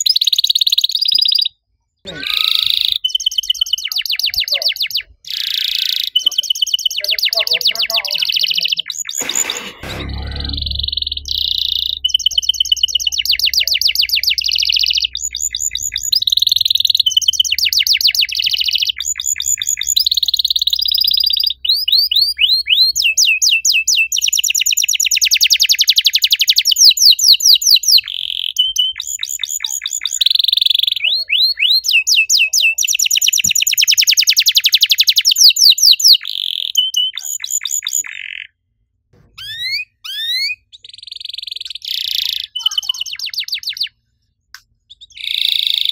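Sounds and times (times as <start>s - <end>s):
canary singing trills and chirps: 0.0s - 38.6s, 39.2s - 44.0s, 44.6s - 45.9s.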